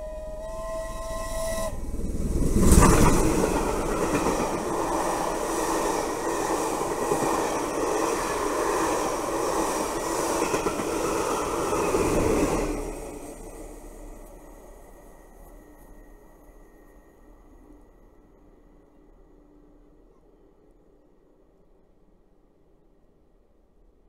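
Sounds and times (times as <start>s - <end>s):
train passing on rails: 0.0s - 24.0s.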